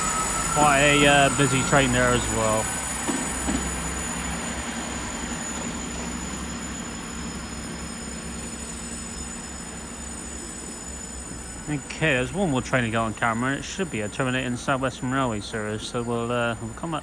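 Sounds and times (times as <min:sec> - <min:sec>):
diesel train engine rumble: 0:00.0 - 0:17.0
train rolling noise: 0:00.0 - 0:17.0.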